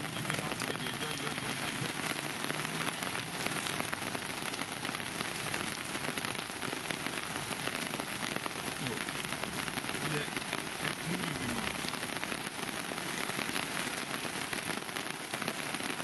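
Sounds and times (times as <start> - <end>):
heavy rain falling: 0.0 - 16.0
raindrops striking a surface: 0.0 - 16.0.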